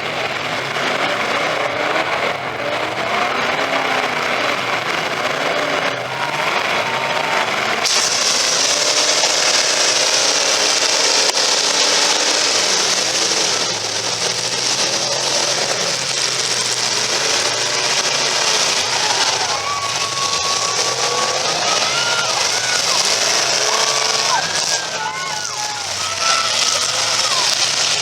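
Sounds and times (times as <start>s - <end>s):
car engines revving: 0.0s - 28.0s
harsh grinding and scraping: 0.0s - 28.0s.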